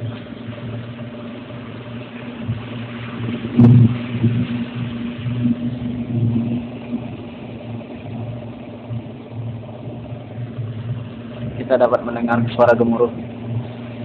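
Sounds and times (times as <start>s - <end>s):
motorboat engine labouring: 0.0s - 14.0s.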